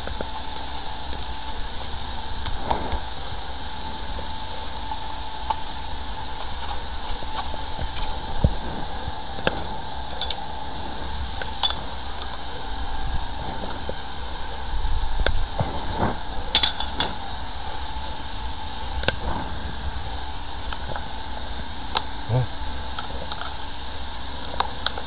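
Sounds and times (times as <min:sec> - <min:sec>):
faint whine: 0:00.0 - 0:25.0
machine hiss: 0:00.0 - 0:25.0.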